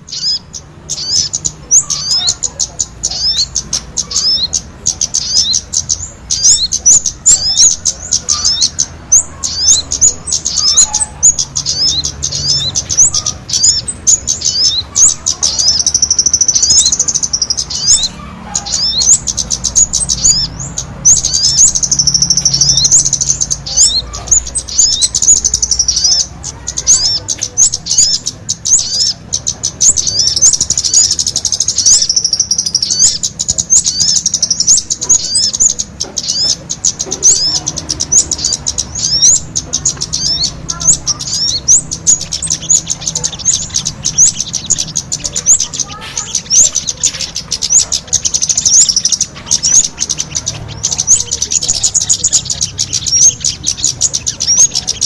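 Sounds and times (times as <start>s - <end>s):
shrill bird chirps: 0.0s - 55.0s.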